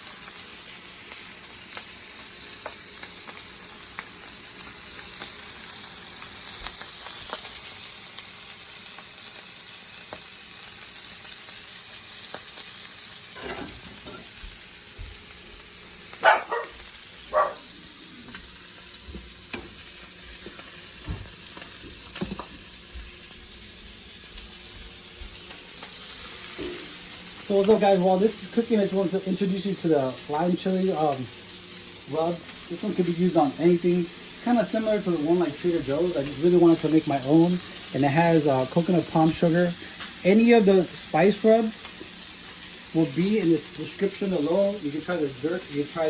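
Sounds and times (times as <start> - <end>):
meat sizzling in a pan: 0.0 - 46.0.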